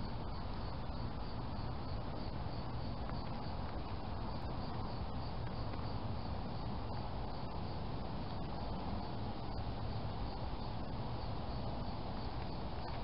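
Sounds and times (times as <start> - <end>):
microphone hiss and low rumble: 0.0 - 13.0.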